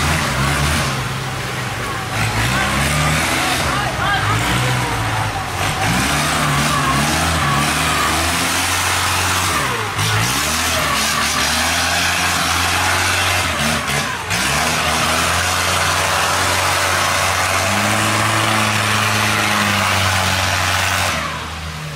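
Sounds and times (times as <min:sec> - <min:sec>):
churning water: 0:00.0 - 0:21.9
diesel boat engine at high revs: 0:00.0 - 0:21.9.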